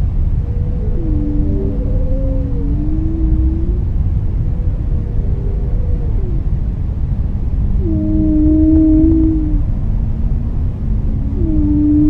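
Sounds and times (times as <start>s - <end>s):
steady low rumble: 0.0s - 12.0s
whale calls: 0.1s - 6.8s, 7.6s - 12.0s.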